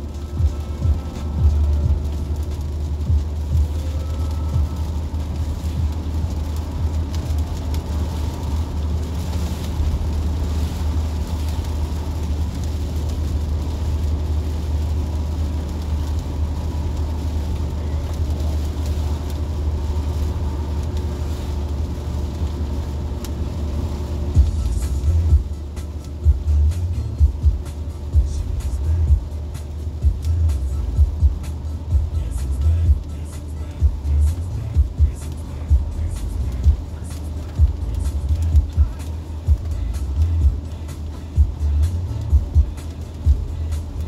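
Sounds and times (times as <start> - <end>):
heavy rain hiss: 0.0 - 44.0
low rumble inside car: 0.0 - 44.0.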